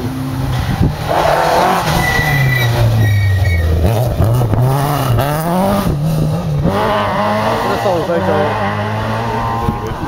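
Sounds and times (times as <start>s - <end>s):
rally car engine passing: 0.0s - 10.0s.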